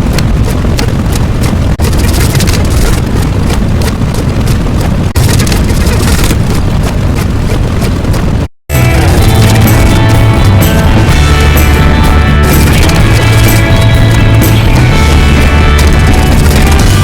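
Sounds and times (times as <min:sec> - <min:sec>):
loud noisy rumble: 0:00.0 - 0:17.0.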